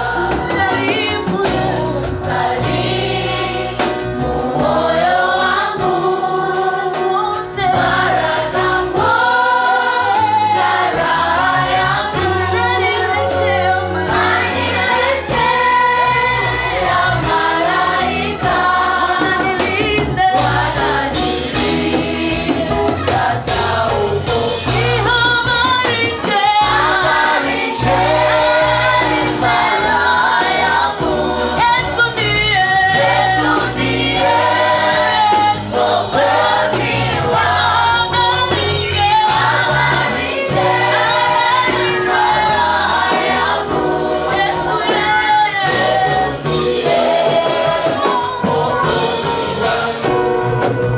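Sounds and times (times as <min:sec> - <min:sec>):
bass line: 0:00.0 - 0:50.9
choir singing gospel song: 0:00.0 - 0:50.9
drums: 0:00.0 - 0:50.9.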